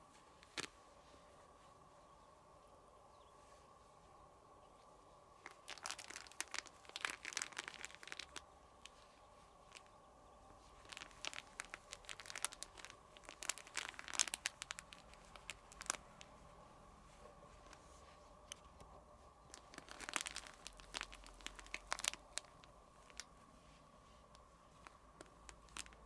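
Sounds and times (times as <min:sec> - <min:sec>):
crinkly cat toy rustling: 0:00.0 - 0:01.9, 0:05.3 - 0:26.0.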